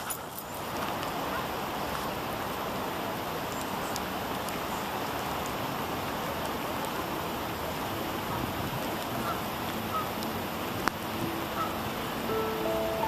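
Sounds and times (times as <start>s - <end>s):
rain falling on pond: 0.0s - 13.0s.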